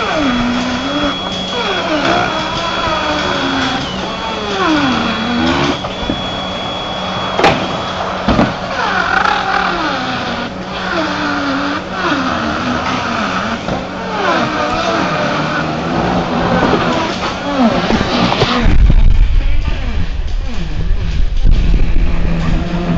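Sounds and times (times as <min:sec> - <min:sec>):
router cutting wood: 0:00.0 - 0:19.6.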